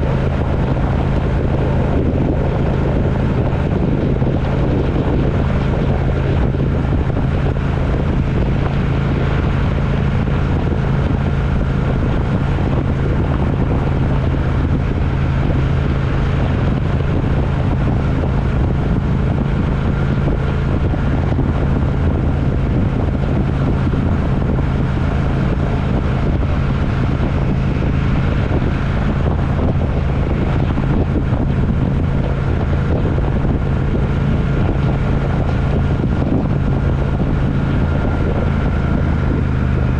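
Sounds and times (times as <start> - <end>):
road and wind noise: 0.0 - 39.9
vehicle engine hum: 0.0 - 39.9.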